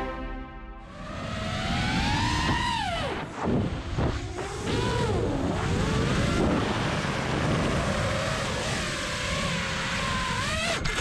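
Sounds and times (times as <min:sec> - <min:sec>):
rushing wind noise: 0:00.8 - 0:10.2
drone motors whining: 0:00.8 - 0:11.0.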